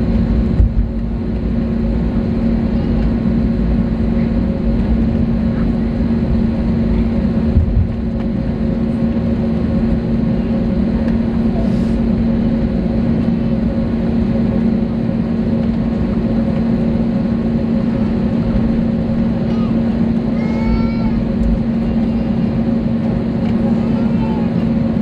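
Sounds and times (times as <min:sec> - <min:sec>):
jet engines droning at idle: 0:00.0 - 0:25.0.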